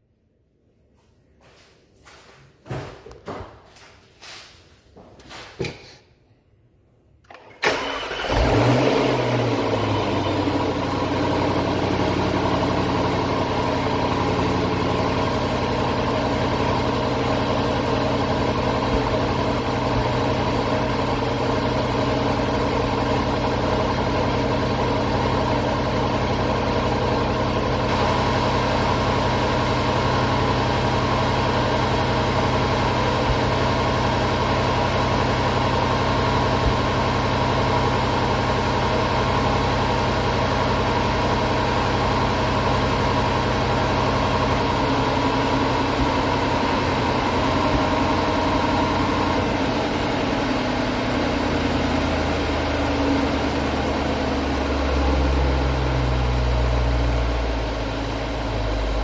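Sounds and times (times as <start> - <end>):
car engine starting and idling: 7.1 - 59.0.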